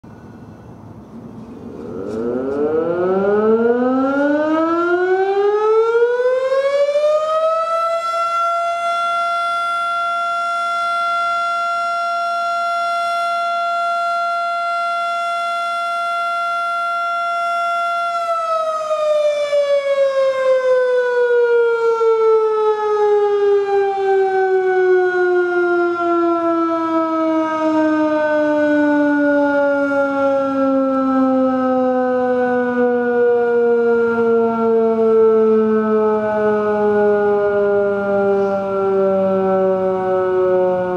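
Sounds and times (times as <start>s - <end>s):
outdoor warning siren wailing: 0.0s - 40.9s.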